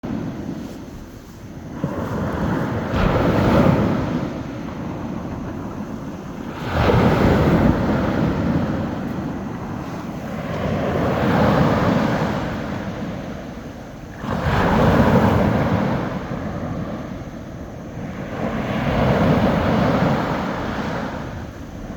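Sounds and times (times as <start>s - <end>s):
small sea waves breaking: 0.0s - 21.9s.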